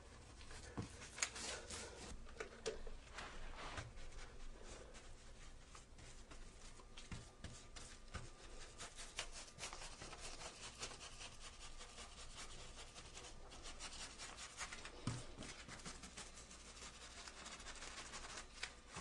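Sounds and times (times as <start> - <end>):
paintbrush scraping on wall: 3.2 - 19.0.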